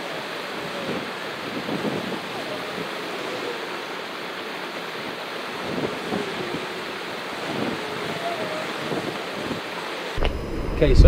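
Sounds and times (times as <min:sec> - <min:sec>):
seawater washing along shore: 0:00.0 - 0:11.0
wind buffeting microphone: 0:00.0 - 0:11.0.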